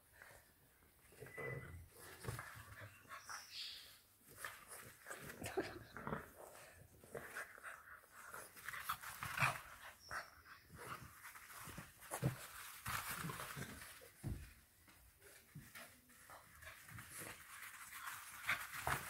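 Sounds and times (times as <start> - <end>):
puppies breathing hard and snuffling: 0.0 - 14.6, 15.3 - 19.0.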